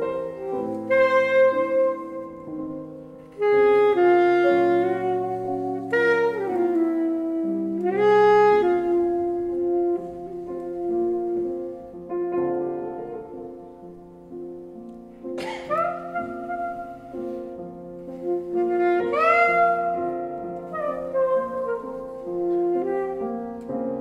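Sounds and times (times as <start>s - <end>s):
saxophone slow melody: 0.0s - 24.0s
soft piano chords: 0.0s - 24.0s.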